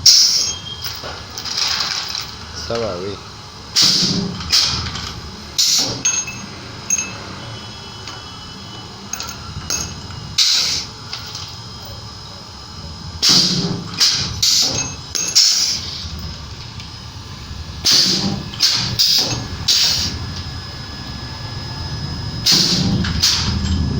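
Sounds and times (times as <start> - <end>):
crackling spot welds: 0.0 - 6.0, 8.0 - 23.8
steady low hum: 0.0 - 23.9.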